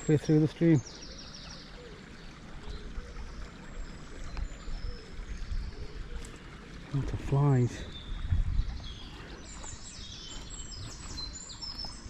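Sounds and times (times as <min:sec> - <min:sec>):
stream trickling over stones: 0:00.0 - 0:12.0.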